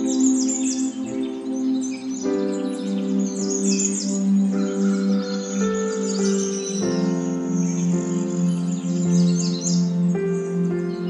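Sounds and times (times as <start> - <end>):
calm background music: 0.0 - 11.0
faint bird-like chirps: 0.0 - 11.0.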